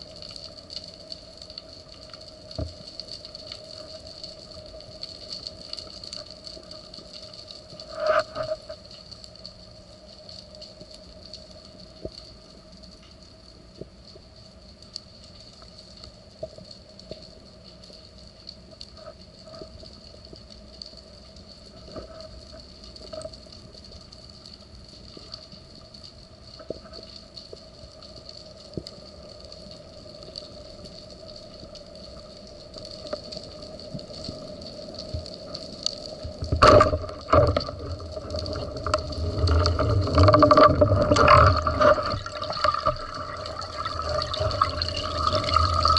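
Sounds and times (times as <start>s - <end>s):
faint underwater hum: 0.0s - 45.9s
sharp clicks and crackles: 0.0s - 45.9s.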